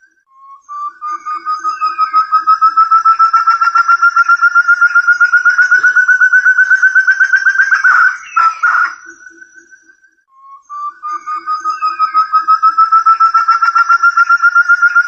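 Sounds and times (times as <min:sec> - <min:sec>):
bird whistled call: 0:00.0 - 0:15.0
faint rising whistle: 0:00.0 - 0:15.0.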